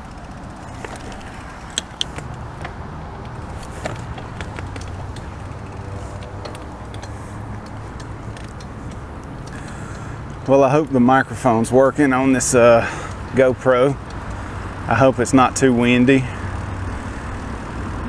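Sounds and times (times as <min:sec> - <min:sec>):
bicycle clicks and rattles: 0:00.0 - 0:18.0.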